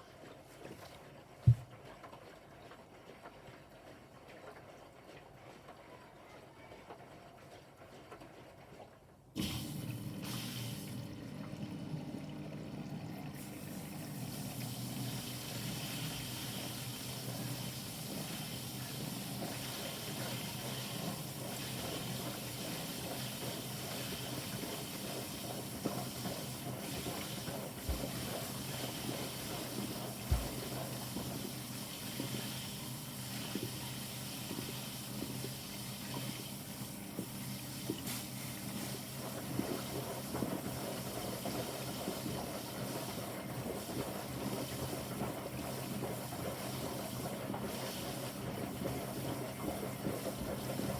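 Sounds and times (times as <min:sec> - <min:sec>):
washing machine hum: 0:00.0 - 0:50.9
water sloshing in washing machine: 0:00.0 - 0:50.9.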